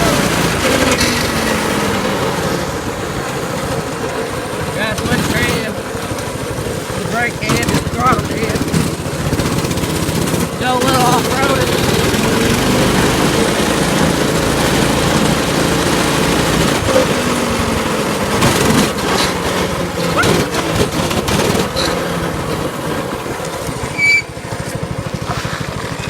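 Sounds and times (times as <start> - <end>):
dirt bike engine revving: 0.0 - 26.0
knocks and rattles: 0.0 - 26.0.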